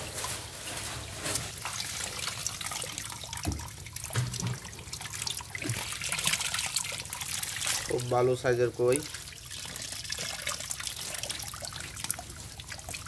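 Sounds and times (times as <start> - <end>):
water splashing: 0.1 - 13.0
water dripping: 1.6 - 13.0.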